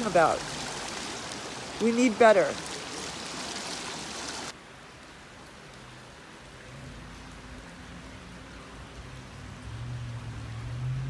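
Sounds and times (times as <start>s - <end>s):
water trickling hiss: 0.0s - 11.0s.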